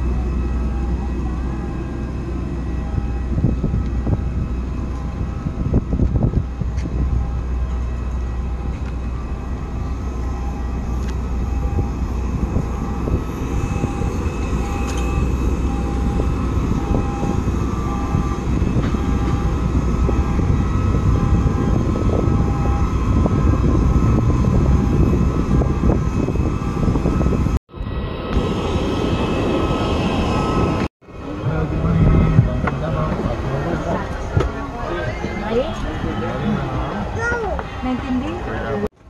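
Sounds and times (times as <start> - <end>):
aircraft engine rumble: 0.0 - 39.0.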